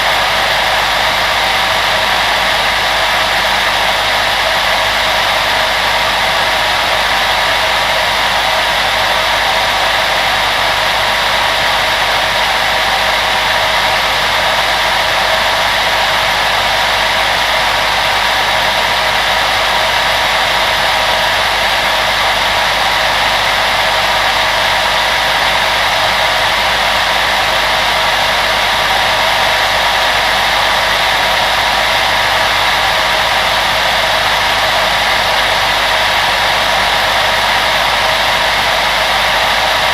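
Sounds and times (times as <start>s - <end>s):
electric blower fan running: 0.0s - 39.9s.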